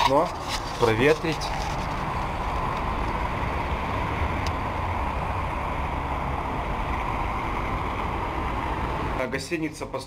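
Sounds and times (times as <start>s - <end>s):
buses and cars passing: 0.0s - 10.0s
city traffic rumble and hiss: 0.0s - 10.0s.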